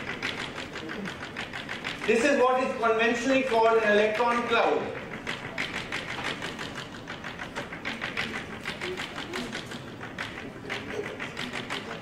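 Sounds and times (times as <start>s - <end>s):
chalk tapping on blackboard: 0.0s - 12.0s.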